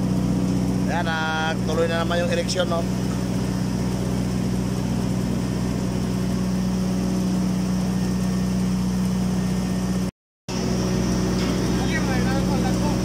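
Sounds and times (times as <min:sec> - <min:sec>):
heavy engine humming: 0:00.0 - 0:13.0.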